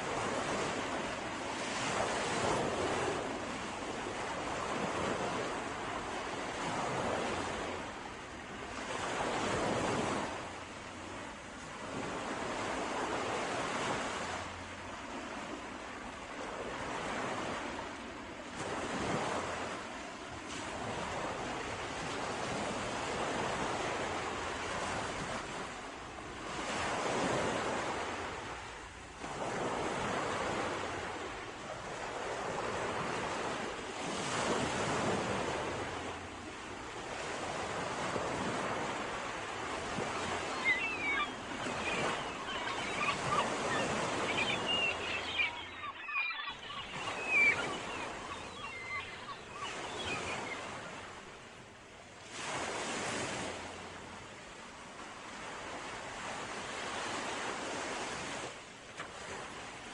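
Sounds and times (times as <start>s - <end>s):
sea waves breaking: 0.0s - 59.9s.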